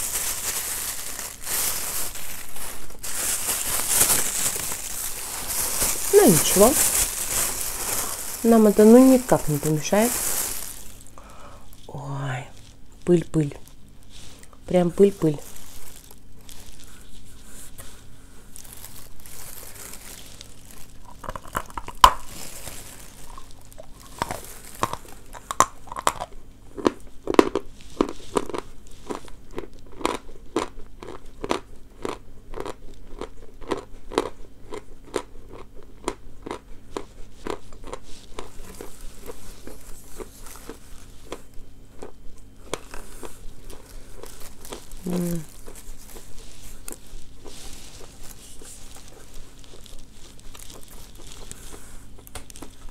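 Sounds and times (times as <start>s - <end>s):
crunchy chewing: 0.0s - 11.9s, 15.4s - 52.9s.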